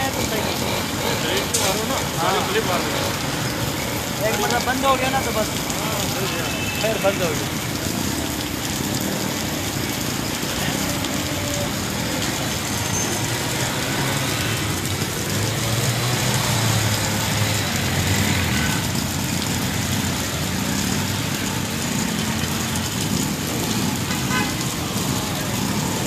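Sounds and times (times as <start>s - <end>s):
rain hiss: 0.0s - 26.0s
road traffic: 0.0s - 26.0s.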